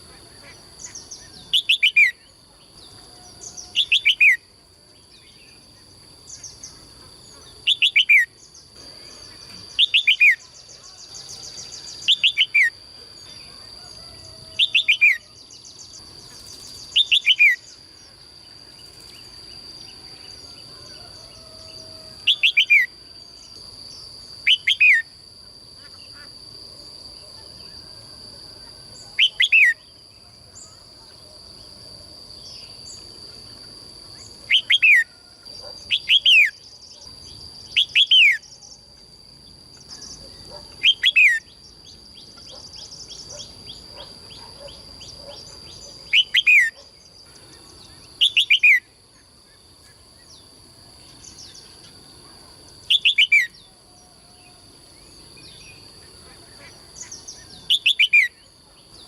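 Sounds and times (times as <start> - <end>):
songbird calling: 0.0 - 25.1, 27.2 - 31.3, 32.4 - 38.8, 39.7 - 59.0.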